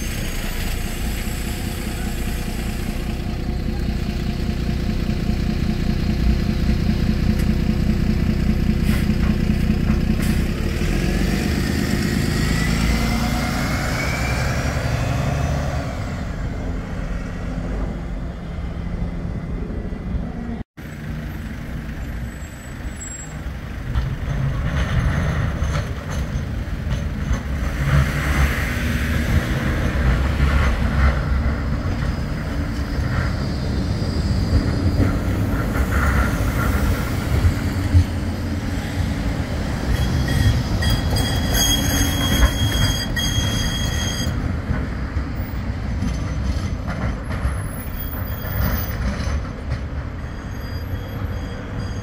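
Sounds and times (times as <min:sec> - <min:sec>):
tram electric whine: 0:00.0 - 0:10.6, 0:12.2 - 0:52.0
buses and cars passing: 0:00.0 - 0:52.0
street traffic: 0:00.0 - 0:52.0
tram passing: 0:00.0 - 0:52.0.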